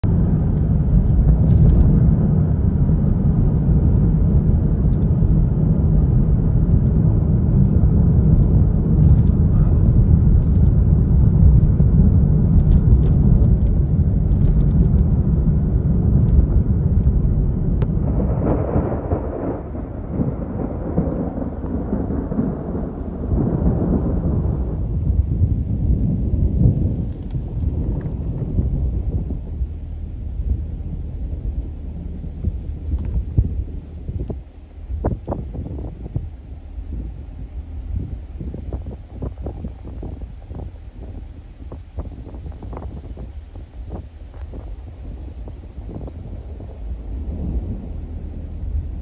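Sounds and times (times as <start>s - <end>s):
car road rumble inside cabin: 0.0s - 49.0s.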